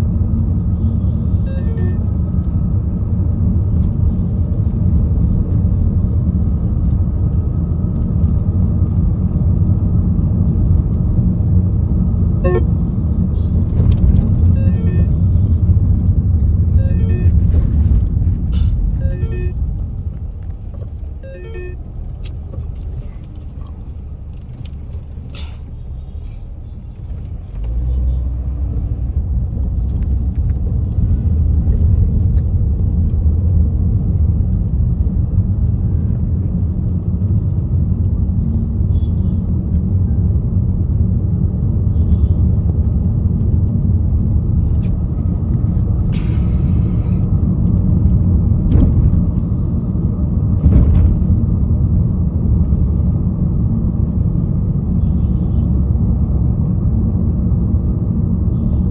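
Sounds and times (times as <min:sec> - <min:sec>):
vehicle rumble: 0:00.0 - 0:58.9.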